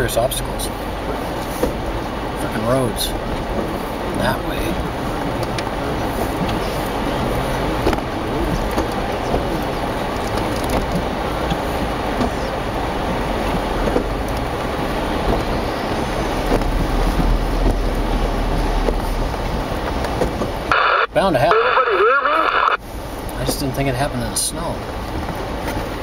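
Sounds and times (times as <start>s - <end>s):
vehicle driving rumble: 0.0s - 26.0s.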